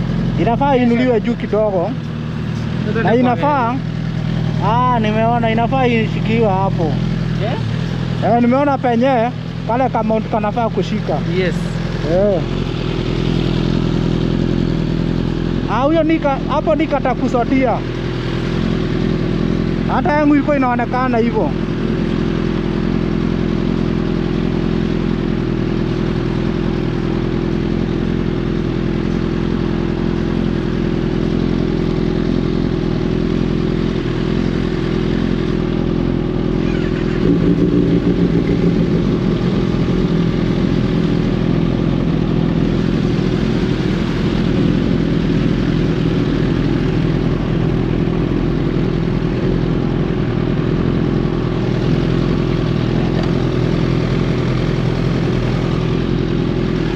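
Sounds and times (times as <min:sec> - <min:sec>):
motorcycle engines idling: 0:00.0 - 0:56.9.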